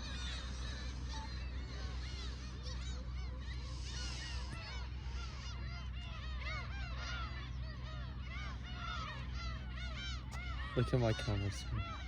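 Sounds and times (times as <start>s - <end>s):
steady low rumble: 0.0s - 10.8s
gulls calling: 0.0s - 12.0s.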